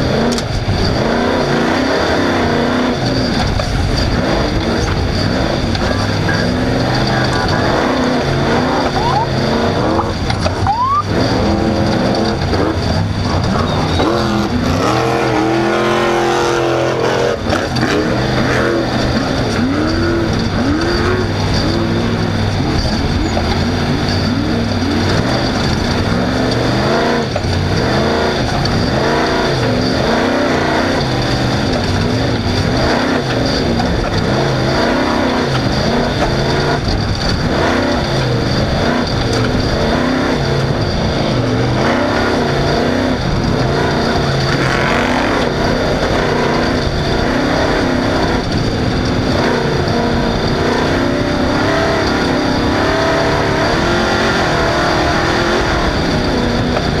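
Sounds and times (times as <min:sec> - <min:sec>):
race car engine revving: 0:00.0 - 0:57.0
rattle and terrain noise: 0:00.0 - 0:57.0.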